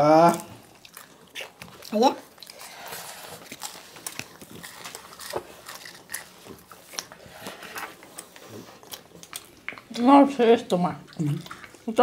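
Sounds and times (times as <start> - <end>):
spoons and wrappers rustling: 0.0 - 9.8.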